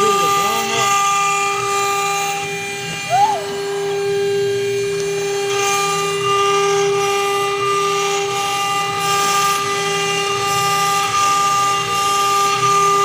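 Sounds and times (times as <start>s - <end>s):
cutter hissing on metal: 0.0s - 13.0s
router spindle whine: 0.0s - 13.0s.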